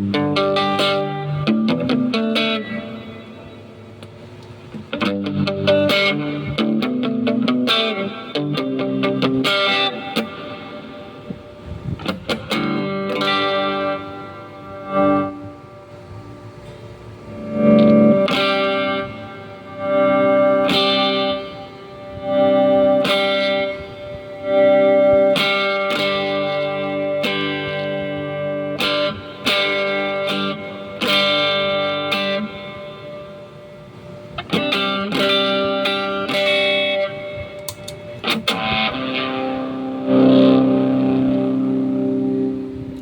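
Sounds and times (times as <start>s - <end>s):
electric guitar chords ringing: 0.0s - 43.0s.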